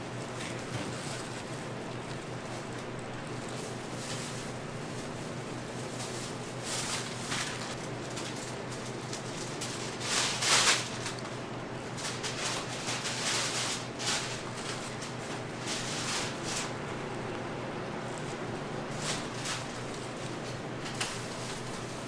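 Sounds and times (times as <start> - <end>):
plastic crinkling: 0.0 - 22.0.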